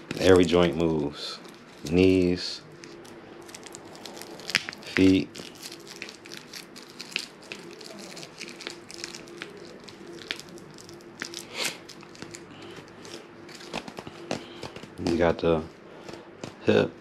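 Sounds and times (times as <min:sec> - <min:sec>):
plastic wrapping crinkling: 0:00.0 - 0:15.4.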